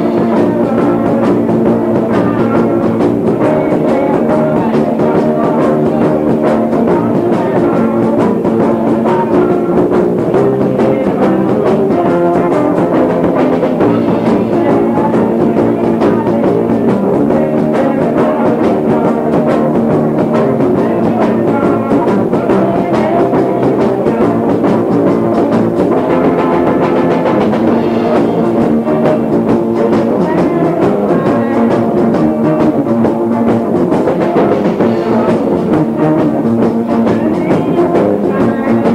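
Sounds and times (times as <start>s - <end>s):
muffled live band playing: 0.0s - 38.9s.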